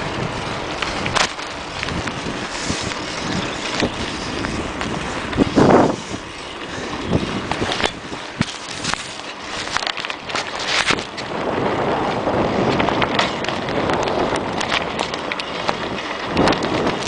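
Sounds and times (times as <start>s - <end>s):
bicycle rolling and rattling: 0.0s - 17.0s
wind rushing over microphone: 0.0s - 17.0s.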